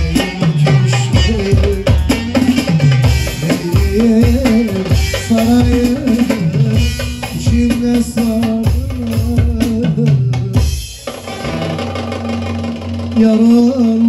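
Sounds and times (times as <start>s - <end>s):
busy drum beat: 0.0s - 14.0s
keyboard melody: 0.0s - 14.0s.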